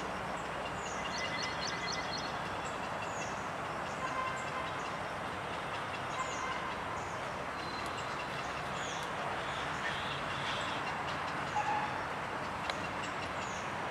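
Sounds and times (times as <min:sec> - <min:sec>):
outdoor background din: 0:00.0 - 0:13.9.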